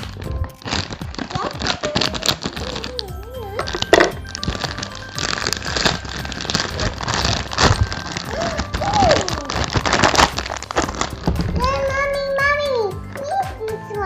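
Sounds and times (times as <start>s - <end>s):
plastic packaging crinkling: 0.0s - 12.3s.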